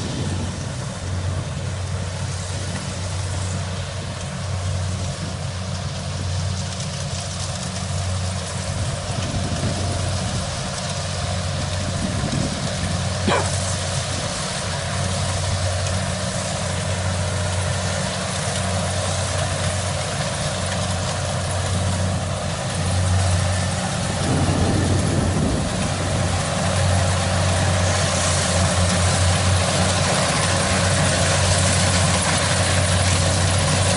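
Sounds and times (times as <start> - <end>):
combine harvester engine hum: 0.0 - 33.9.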